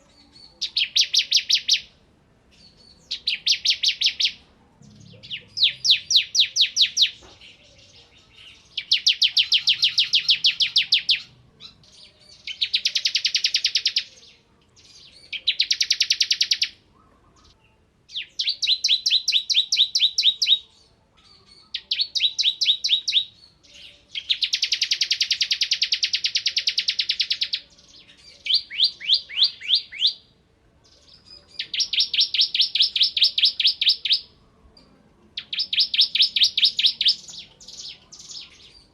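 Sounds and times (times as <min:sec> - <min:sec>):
bird chattering song: 0:00.0 - 0:01.9, 0:02.5 - 0:34.4, 0:35.4 - 0:38.9.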